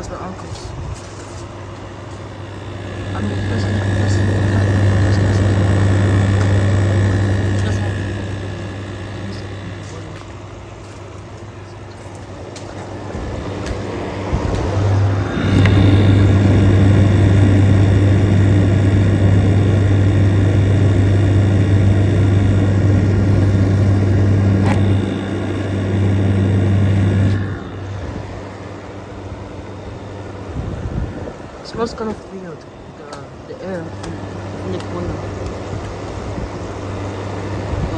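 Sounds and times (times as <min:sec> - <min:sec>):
air conditioner faint whine: 0:00.0 - 0:37.9
air conditioner low hum: 0:00.0 - 0:37.9.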